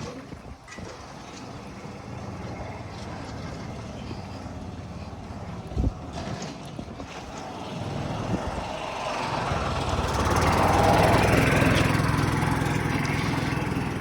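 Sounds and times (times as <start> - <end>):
golf cart engine driving past: 0.8 - 14.0.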